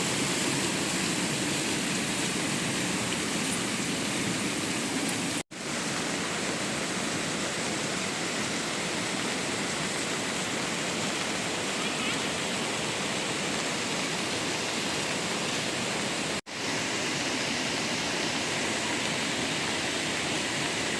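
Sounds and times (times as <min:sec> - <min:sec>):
water rushing: 0:00.0 - 0:20.9.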